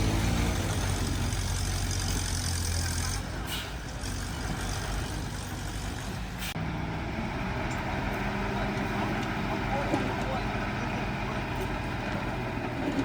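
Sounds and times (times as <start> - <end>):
heavy machinery diesel engine: 0.0 - 13.0.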